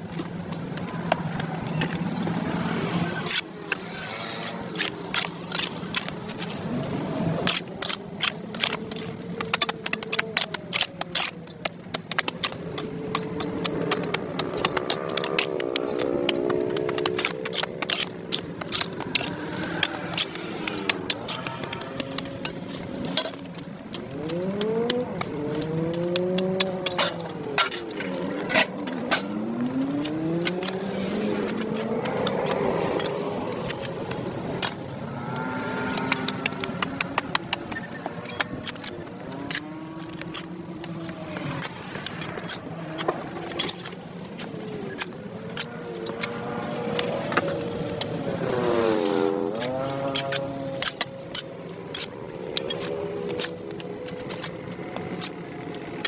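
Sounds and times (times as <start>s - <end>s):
motor vehicles passing: 0.0s - 56.0s.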